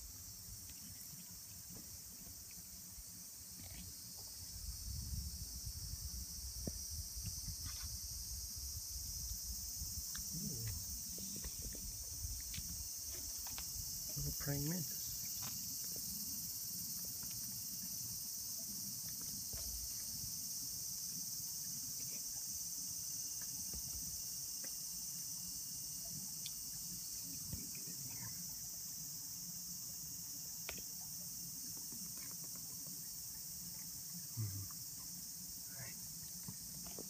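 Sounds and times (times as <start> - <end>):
cicadas singing: 0.0 - 37.0.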